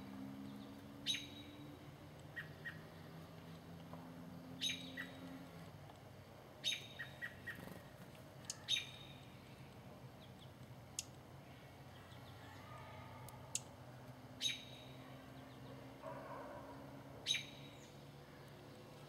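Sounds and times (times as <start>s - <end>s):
birds chirping: 0.0s - 5.6s, 6.6s - 19.0s.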